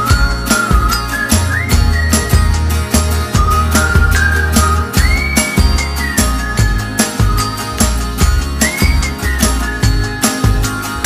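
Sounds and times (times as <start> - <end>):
high melody line: 0.0 - 11.0
music with drum beat: 0.0 - 11.0.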